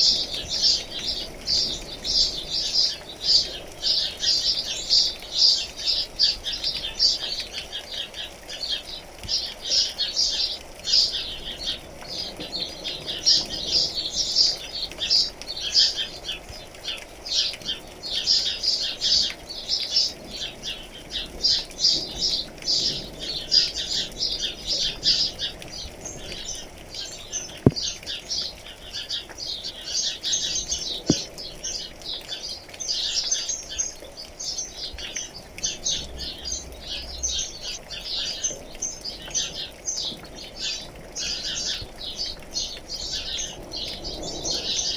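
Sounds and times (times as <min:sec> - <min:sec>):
rain patter: 0:00.0 - 0:44.9
small birds chirping: 0:00.0 - 0:44.9.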